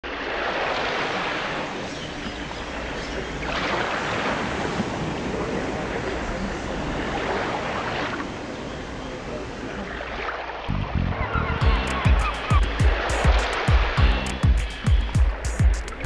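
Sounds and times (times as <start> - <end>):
rushing washing noise: 0.0 - 10.8, 11.6 - 16.0.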